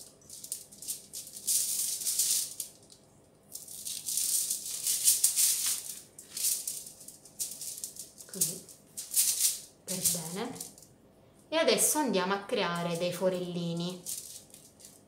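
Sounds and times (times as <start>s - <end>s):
aluminium foil crinkling: 0.0s - 10.8s, 12.7s - 15.0s
salt grains pattering on foil: 0.0s - 10.8s, 12.8s - 15.0s.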